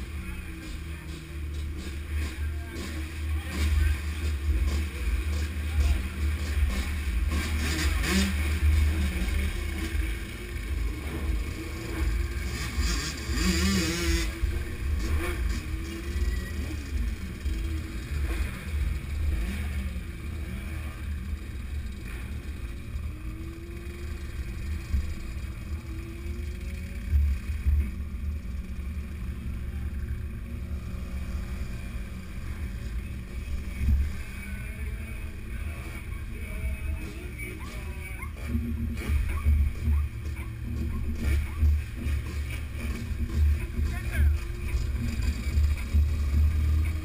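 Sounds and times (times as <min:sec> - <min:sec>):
motorcycle engine revving: 0:00.0 - 0:47.0
motorcycle engines rumbling: 0:00.0 - 0:47.0.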